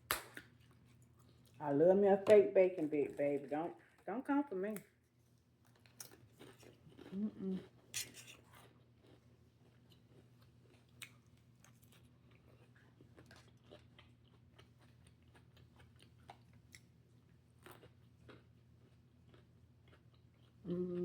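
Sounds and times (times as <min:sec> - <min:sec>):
chewing salad: 0:00.1 - 0:01.6, 0:05.0 - 0:21.0.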